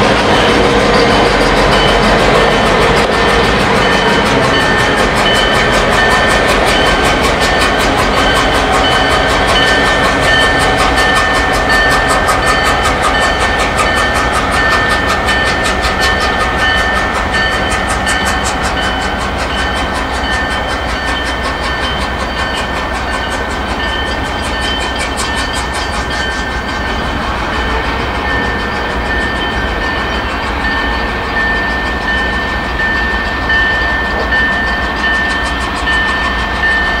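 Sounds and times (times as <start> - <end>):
diesel locomotive engine chuffing: 0.0 - 37.0.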